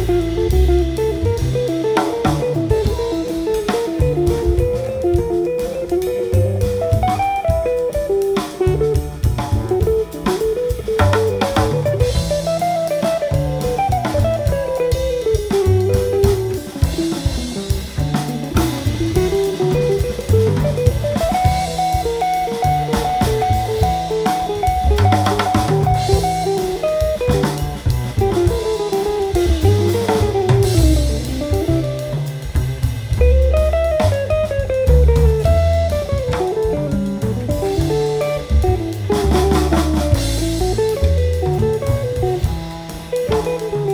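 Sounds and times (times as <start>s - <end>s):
drum kit: 0.0s - 43.9s
jazz guitar: 0.0s - 43.9s
walking bass: 0.0s - 43.9s.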